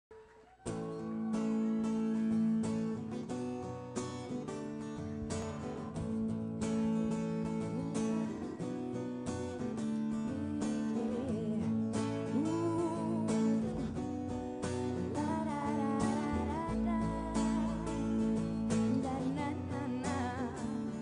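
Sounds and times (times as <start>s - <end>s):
acoustic guitar strumming: 0.6s - 21.0s.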